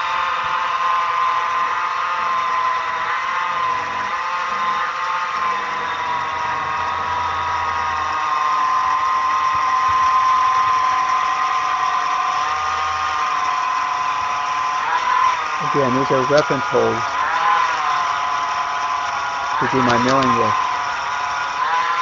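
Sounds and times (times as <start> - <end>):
milling machine spindle whining: 0.0 - 22.0.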